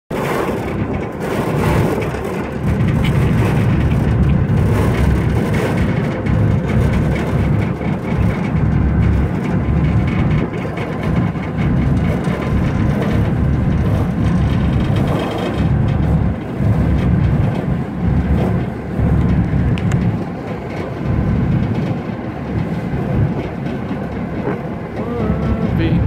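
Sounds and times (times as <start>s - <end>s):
ferry engines rumbling: 0.1s - 26.0s
wind buffeting microphone: 0.1s - 26.0s.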